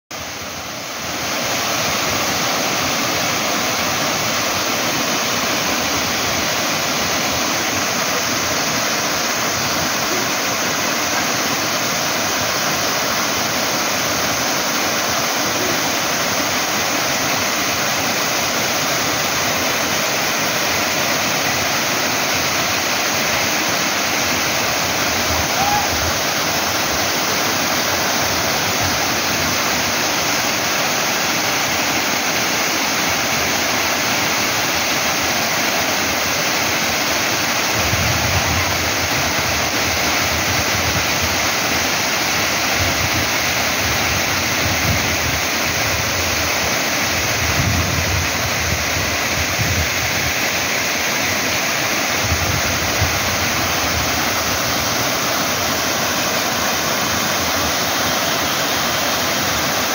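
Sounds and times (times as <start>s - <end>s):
waterfall rushing over rocks: 0.1s - 59.9s.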